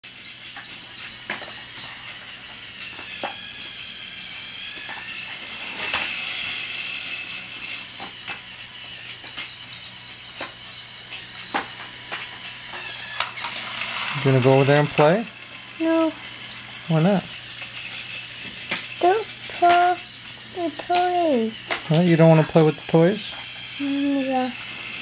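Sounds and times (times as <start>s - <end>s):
toy train clicking: 0.0s - 25.0s
toy train motor whine: 0.0s - 25.0s.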